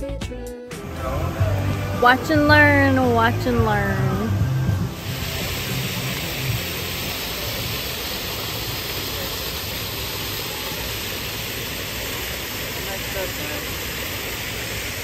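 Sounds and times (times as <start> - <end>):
steady rushing noise: 0.8 - 15.0.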